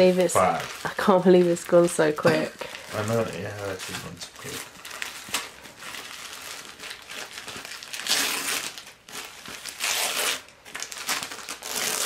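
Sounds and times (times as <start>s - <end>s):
wrapping paper tearing and rustling: 0.0s - 12.0s.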